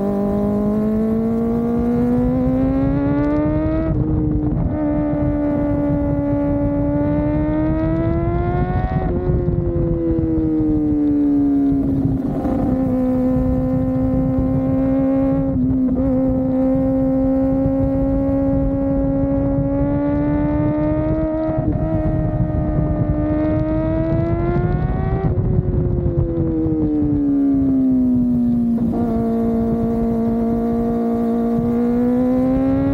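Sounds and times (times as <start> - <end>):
low wind rush: 0.0 - 32.9
motorcycle engine revving: 0.0 - 32.9.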